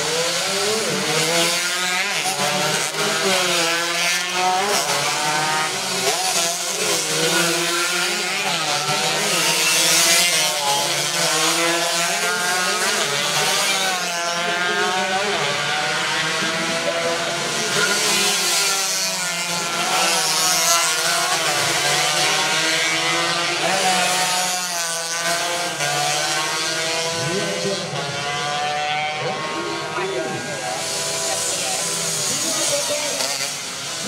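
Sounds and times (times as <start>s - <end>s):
motorcycles buzzing past: 0.0s - 34.0s.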